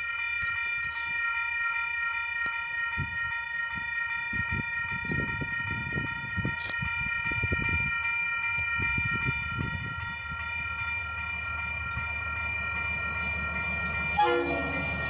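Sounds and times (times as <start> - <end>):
steady high-pitched tone: 0.0 - 15.0
distant freight train rumble: 2.7 - 15.0.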